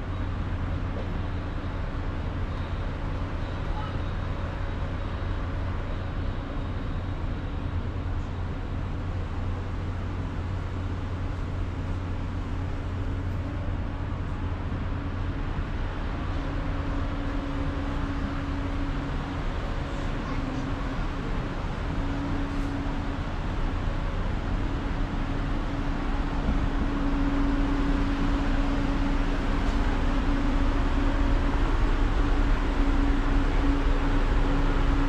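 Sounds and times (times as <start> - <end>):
low machinery hum: 0.0 - 35.0.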